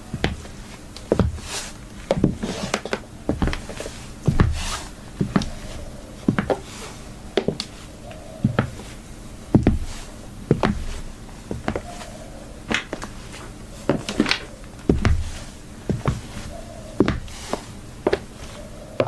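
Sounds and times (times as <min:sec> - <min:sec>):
high heels clicking on hard floor: 0:00.1 - 0:05.7, 0:06.3 - 0:06.7, 0:07.4 - 0:08.9, 0:09.5 - 0:12.1, 0:12.7 - 0:18.4
shoe scuffs: 0:00.1 - 0:19.0.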